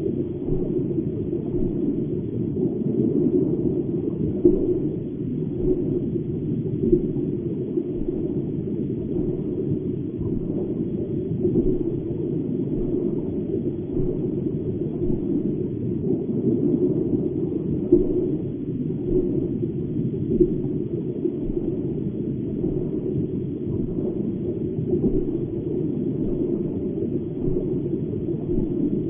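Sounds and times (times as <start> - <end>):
aquarium water rumbling: 0.0 - 29.0.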